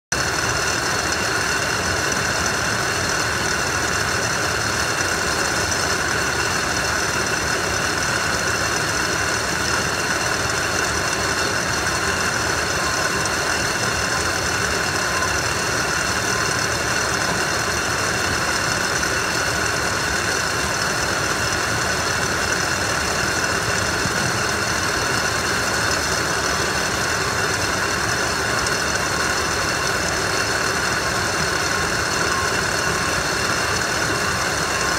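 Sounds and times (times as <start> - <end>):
conveyor rollers and motors din: 0.1 - 34.9
high-pitched whines: 0.2 - 34.9.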